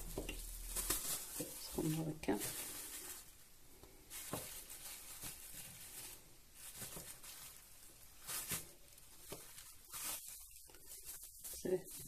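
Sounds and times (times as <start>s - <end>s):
cling film rustling: 0.0s - 3.4s, 4.1s - 12.0s
dough handling noise: 0.0s - 12.0s.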